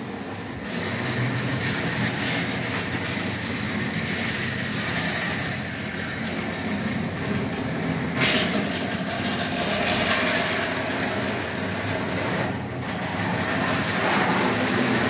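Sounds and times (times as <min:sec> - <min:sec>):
model train motor humming: 0:00.0 - 0:15.0
wheels rumbling on rail: 0:00.0 - 0:15.0.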